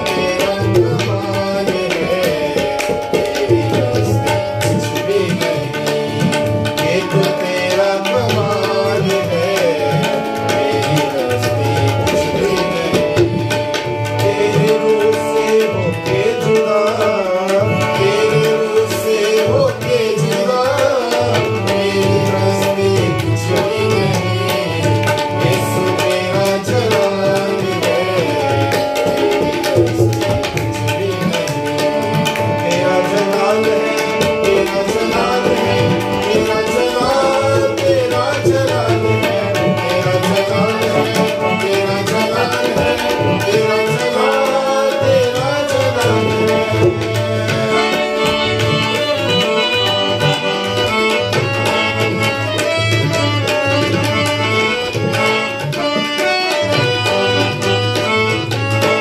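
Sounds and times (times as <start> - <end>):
harmonium chords: 0.0 - 59.0
man singing devotional song: 0.0 - 59.0
tabla rhythm: 0.0 - 59.0.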